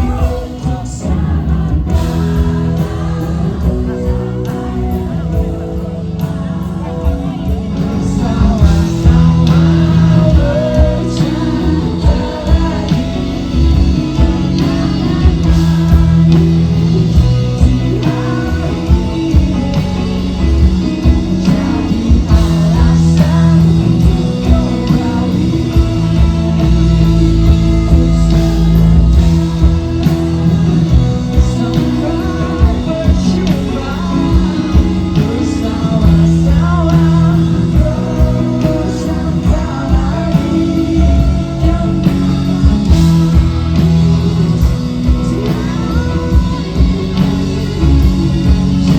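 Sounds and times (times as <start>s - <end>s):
lead singer singing: 0.0s - 48.9s
rock band playing: 0.0s - 48.9s.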